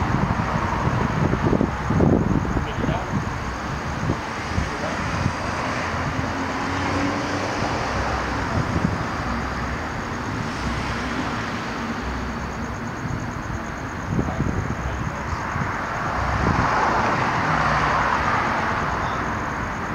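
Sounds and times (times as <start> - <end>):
car traffic: 0.0 - 19.9.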